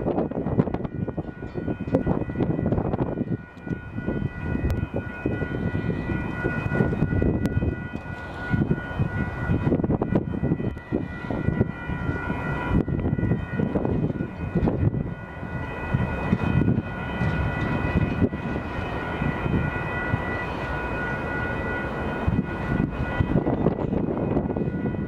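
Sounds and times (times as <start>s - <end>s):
crossing warning bell ringing: 0.0s - 25.0s
train cars rolling on steel wheels: 0.0s - 25.0s.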